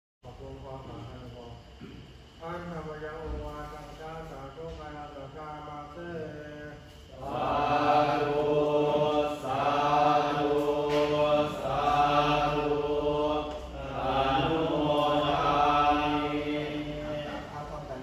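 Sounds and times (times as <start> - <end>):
monks chanting in unison: 3.2 - 18.0.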